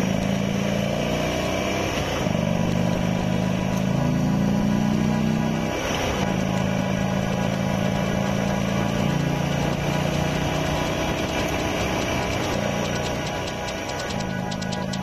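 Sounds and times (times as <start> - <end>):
motorcycle engine cruising: 0.0 - 15.0
road noise: 0.0 - 15.0.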